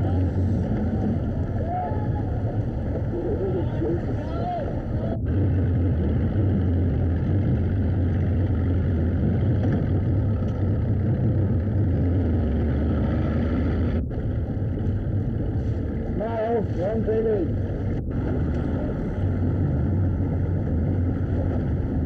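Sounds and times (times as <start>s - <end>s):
motorboat engine humming: 0.0s - 22.0s
wind and water noise: 0.0s - 22.0s.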